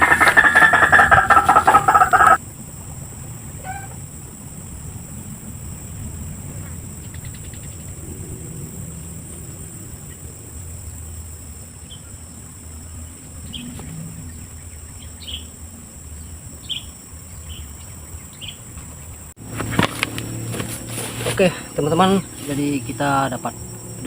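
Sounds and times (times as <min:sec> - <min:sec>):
insects humming: 0:00.0 - 0:24.0.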